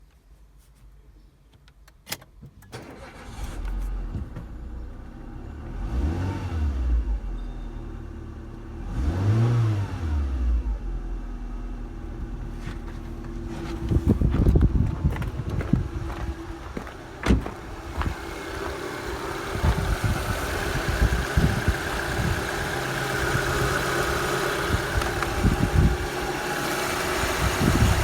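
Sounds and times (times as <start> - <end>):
car engine starting and revving: 2.8 - 28.0.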